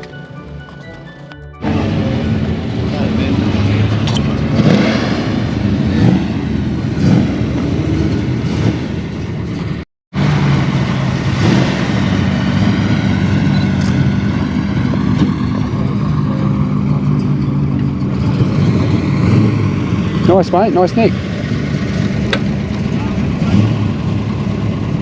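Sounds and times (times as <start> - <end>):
car engines running: 0.0 - 25.0.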